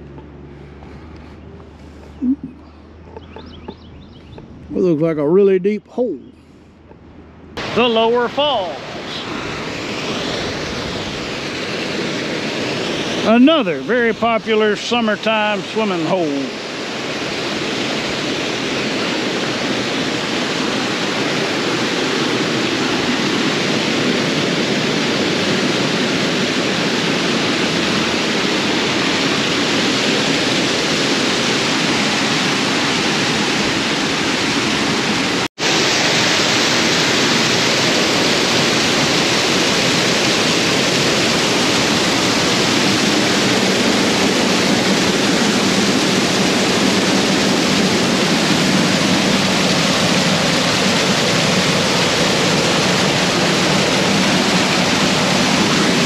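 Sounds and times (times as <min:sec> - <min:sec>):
waterfall rushing: 0:07.6 - 0:56.0.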